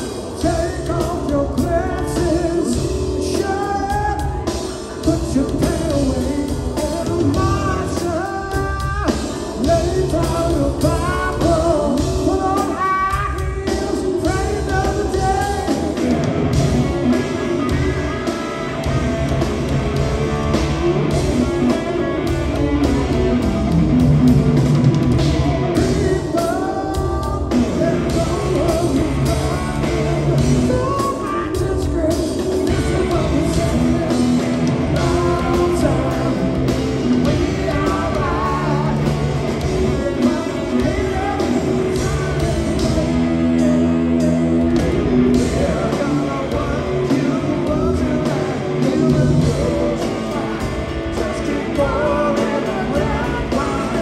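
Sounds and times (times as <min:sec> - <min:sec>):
man singing: 0:00.0 - 0:19.0, 0:25.4 - 0:54.0
bass guitar: 0:00.0 - 0:54.0
drum kit: 0:00.0 - 0:54.0
electric guitar: 0:00.0 - 0:54.0.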